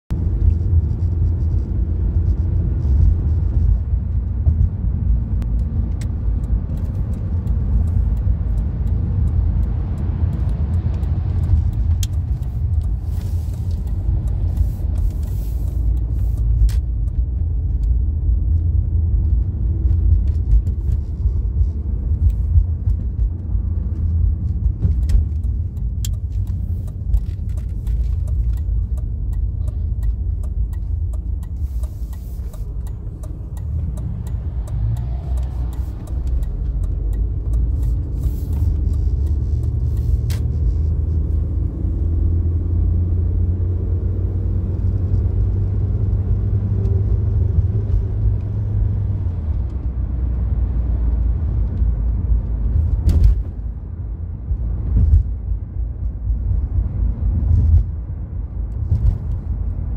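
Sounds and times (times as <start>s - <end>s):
car cabin road and engine rumble: 0.1s - 59.9s.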